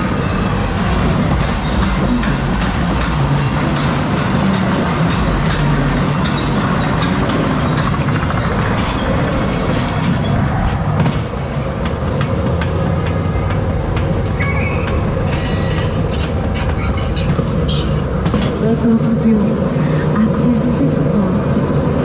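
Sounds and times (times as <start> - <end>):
ride car rumbling on steel track: 0.0 - 22.0.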